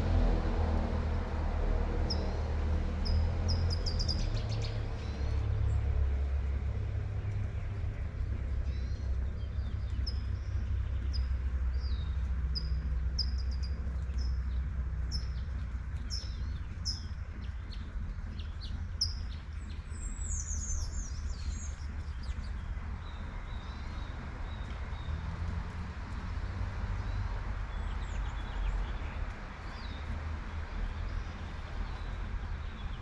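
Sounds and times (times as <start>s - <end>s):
steady low rumble: 0.0s - 33.0s
songbird chirping: 2.0s - 33.0s.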